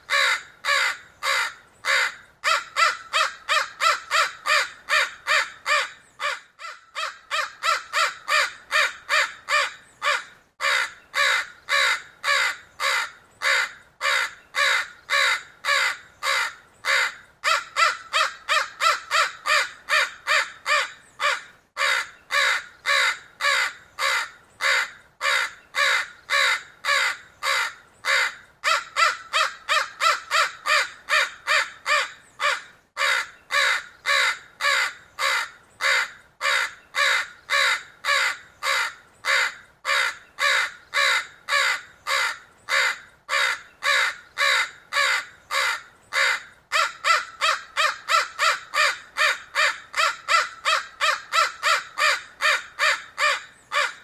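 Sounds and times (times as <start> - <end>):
crow cawing: 0.1 - 54.0.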